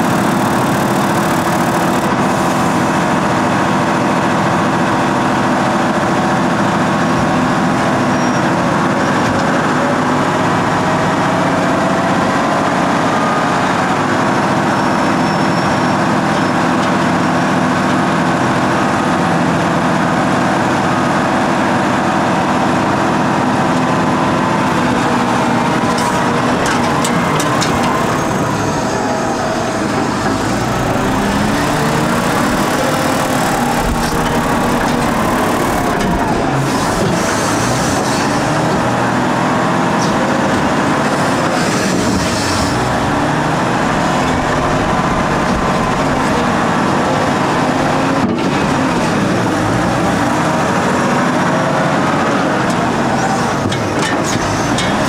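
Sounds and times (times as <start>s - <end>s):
heavy diesel engine under load: 0.0s - 55.0s.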